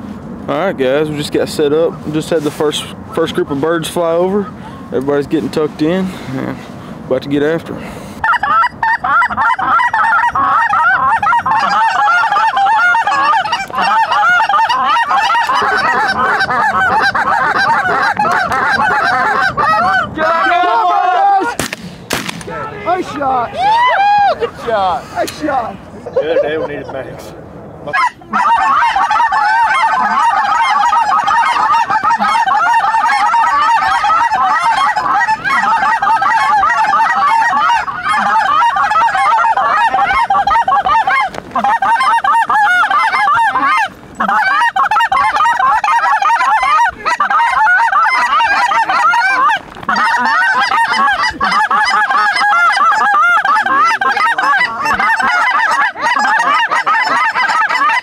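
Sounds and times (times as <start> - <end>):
geese honking: 0.5 - 6.3, 7.2 - 27.0, 27.9 - 58.0.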